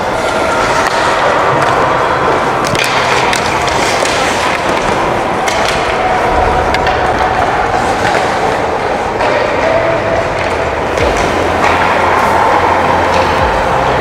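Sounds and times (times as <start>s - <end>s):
skate blades scraping ice: 0.0s - 14.0s.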